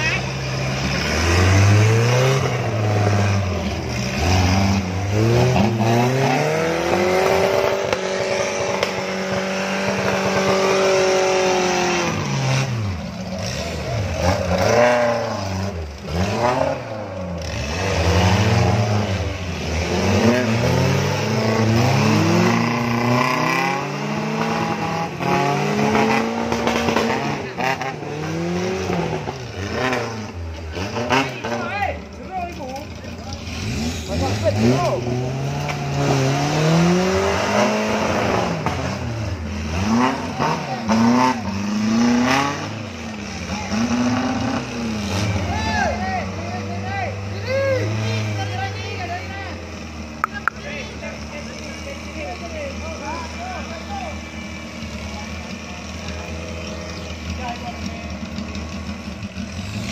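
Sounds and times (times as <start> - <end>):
off-road engines revving: 0.0 - 59.9.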